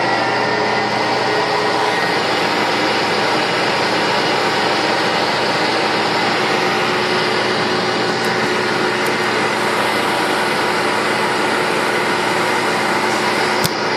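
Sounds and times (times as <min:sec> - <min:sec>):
treadmill motor and belt whirring: 0:00.0 - 0:13.9.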